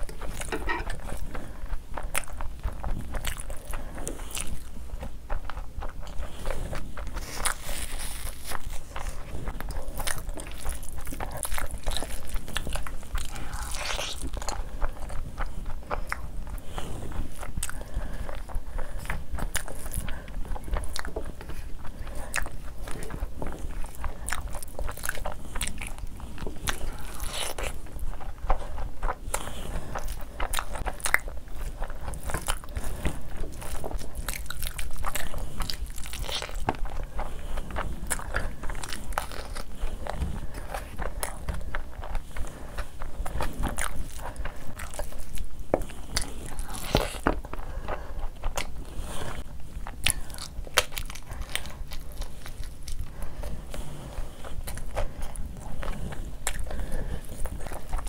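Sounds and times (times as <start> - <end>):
chewing food: 0.0 - 58.0.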